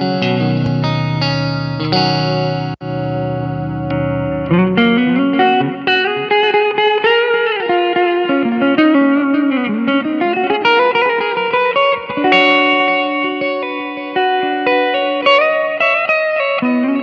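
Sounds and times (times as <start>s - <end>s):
electric guitar lead melody: 0.0s - 17.0s.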